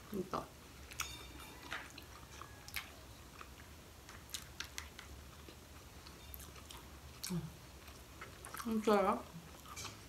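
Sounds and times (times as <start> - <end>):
faint wet chewing: 0.8 - 10.0.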